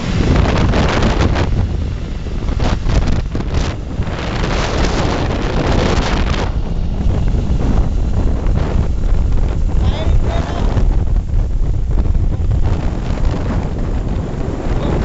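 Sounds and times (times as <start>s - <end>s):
two-stroke motorcycle engine: 0.0s - 15.0s
wind noise on microphone: 0.0s - 15.0s.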